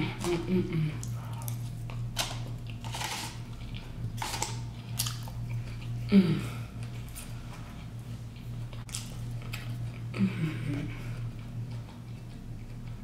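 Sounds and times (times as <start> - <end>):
steady low hum: 0.0 - 13.0
chewing food: 1.0 - 6.1, 6.7 - 13.0.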